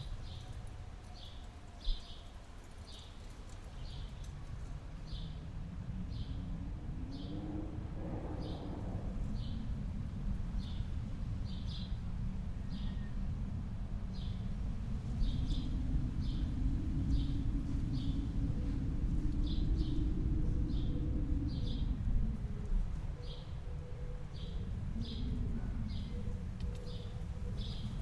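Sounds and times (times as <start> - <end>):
low wind rumble: 0.0 - 28.0.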